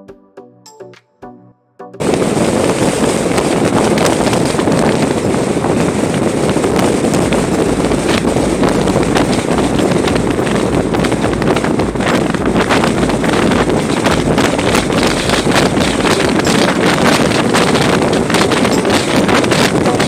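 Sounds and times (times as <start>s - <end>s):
car road noise: 2.0s - 20.0s
wind buffeting microphone: 2.0s - 20.0s.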